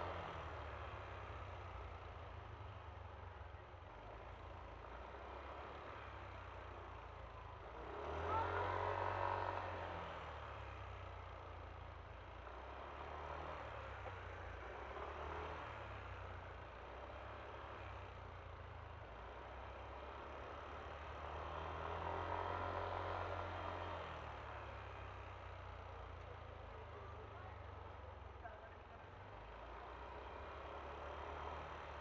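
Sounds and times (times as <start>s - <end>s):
road and traffic noise: 0.0s - 32.0s.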